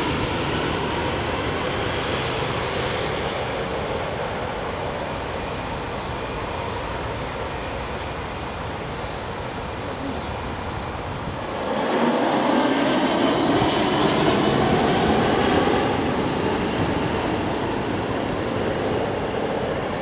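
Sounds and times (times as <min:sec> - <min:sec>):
high jet engine whine: 0:00.0 - 0:20.0
jet airliner engines roaring: 0:00.0 - 0:20.0.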